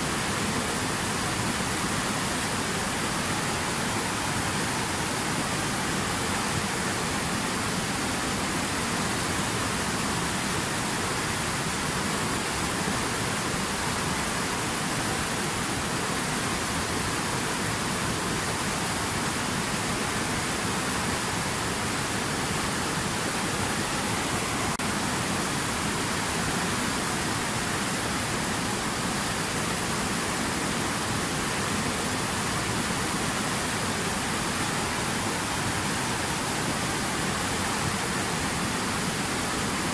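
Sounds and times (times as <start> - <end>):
water rushing over stones: 0.0 - 39.9.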